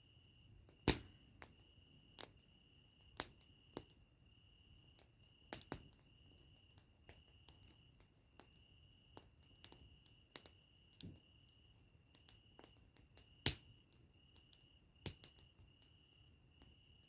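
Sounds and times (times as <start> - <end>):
campfire crackling and popping: 0.4 - 17.0.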